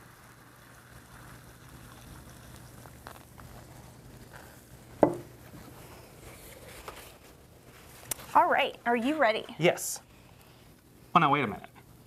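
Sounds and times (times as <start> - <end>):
liquid nitrogen hissing: 0.0 - 12.0.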